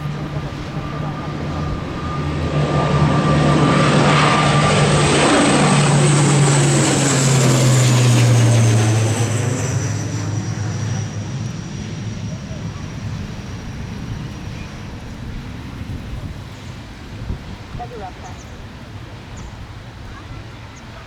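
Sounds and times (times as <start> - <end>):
propeller airliner passing: 0.0 - 21.0.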